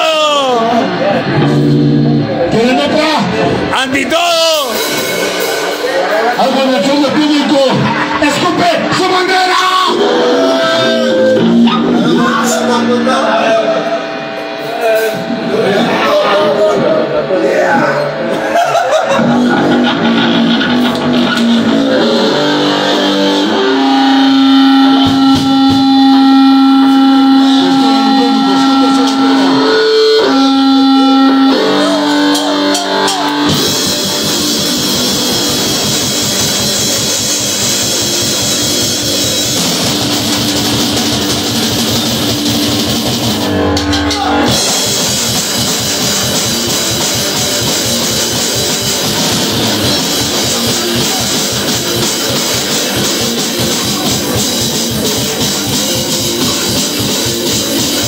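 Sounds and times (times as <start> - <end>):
held electric guitar notes: 0.0 - 3.7, 8.8 - 58.0
live rock band playing: 0.0 - 58.0.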